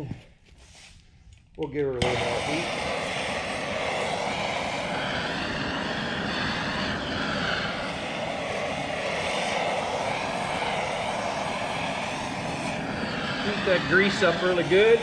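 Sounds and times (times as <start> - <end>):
torch flame roaring: 2.0 - 15.0.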